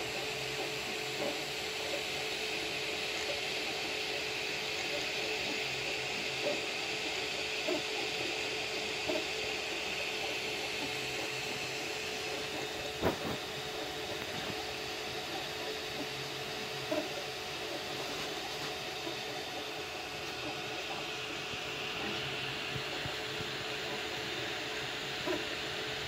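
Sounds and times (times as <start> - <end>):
fan hiss: 0.0 - 26.0
steady hum: 0.0 - 26.0.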